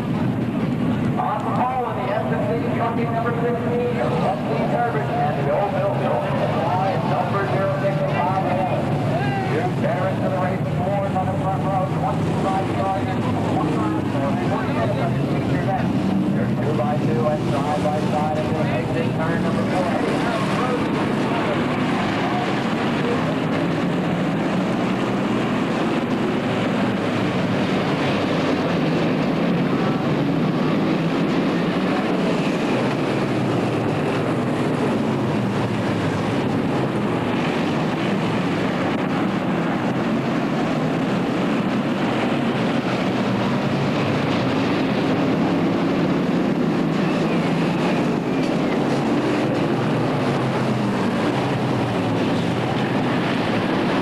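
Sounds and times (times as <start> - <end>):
race car engines droning: 0.0 - 54.0.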